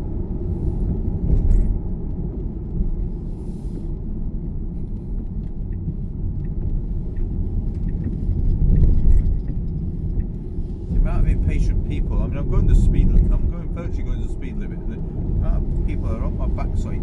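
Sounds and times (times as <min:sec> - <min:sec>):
road and tyre noise in car: 0:00.0 - 0:17.0.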